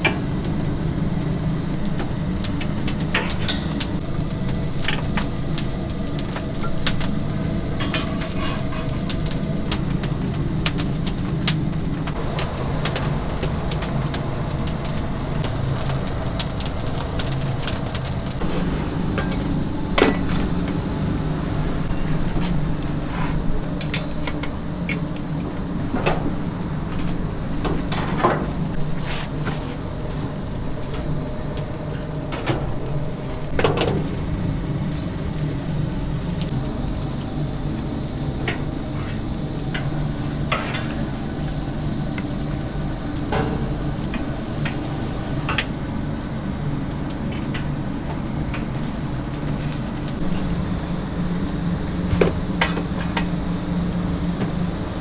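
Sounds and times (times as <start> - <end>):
kitchen machinery humming: 0.0 - 55.0.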